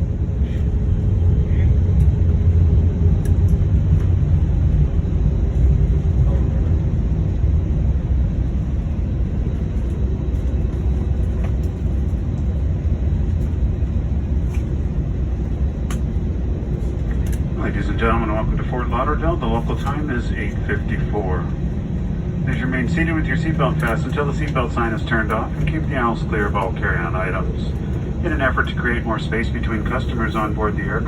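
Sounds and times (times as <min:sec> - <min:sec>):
aircraft engines and wheels rumbling: 0:00.0 - 0:31.0.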